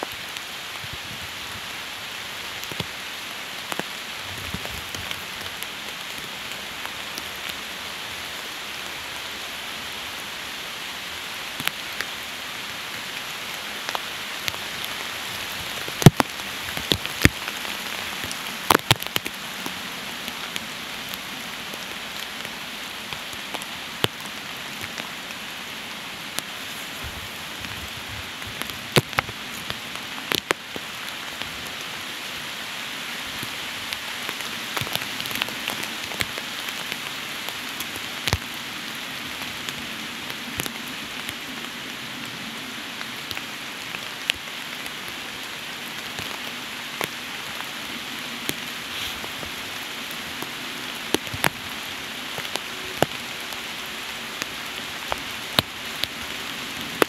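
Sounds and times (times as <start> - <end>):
raindrops ticking close by: 0.0 - 57.0
steady rain: 0.0 - 57.0.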